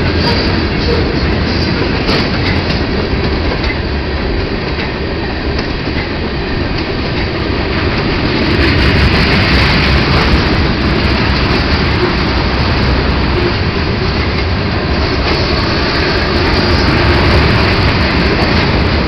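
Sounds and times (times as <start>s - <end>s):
freight train wheels clattering on rails: 0.0s - 19.0s.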